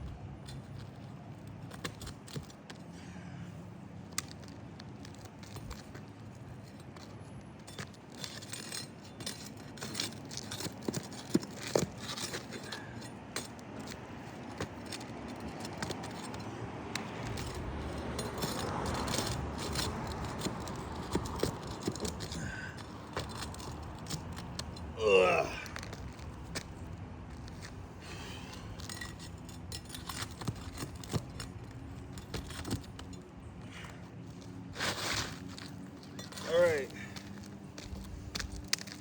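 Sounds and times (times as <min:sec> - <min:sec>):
metallic clicks and scrapes: 0:00.0 - 0:02.9, 0:04.0 - 0:25.0, 0:25.8 - 0:39.0.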